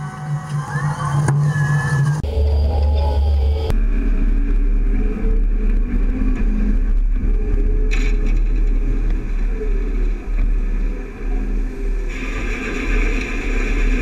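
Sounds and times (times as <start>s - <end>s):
farm machinery rumbling: 2.0s - 14.0s.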